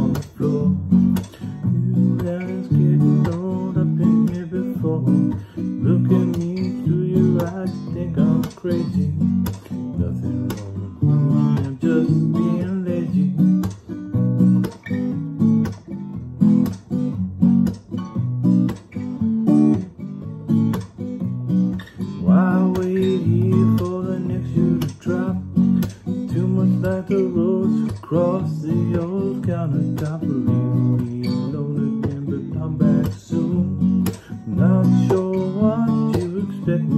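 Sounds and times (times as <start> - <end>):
acoustic guitar strumming: 0.0 - 36.9.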